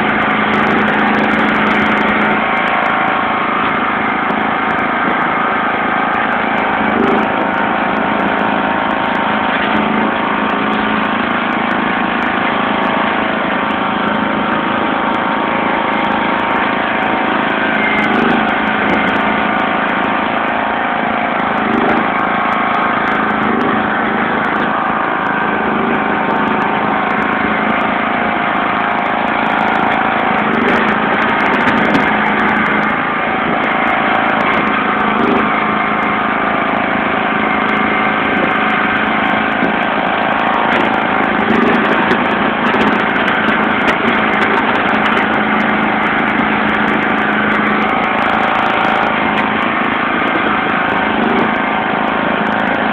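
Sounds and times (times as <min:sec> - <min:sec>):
lawn tractor engine running: 0:00.0 - 0:52.9.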